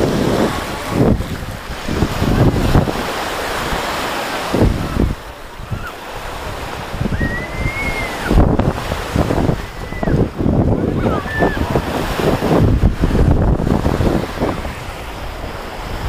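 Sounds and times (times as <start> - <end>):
small waves washing onto shore: 0.0 - 16.0
wind buffeting microphone: 0.0 - 16.0.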